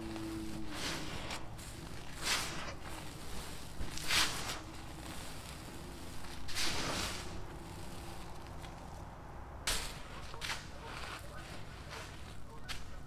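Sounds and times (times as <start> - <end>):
dry sand and charcoal crumbling: 0.0 - 13.0.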